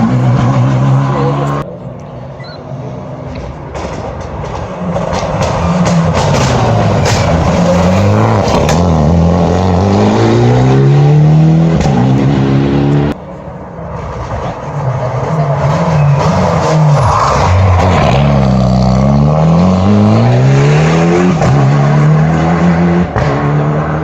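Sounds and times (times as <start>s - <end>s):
rally car engine revving: 0.0s - 1.7s, 3.0s - 24.0s.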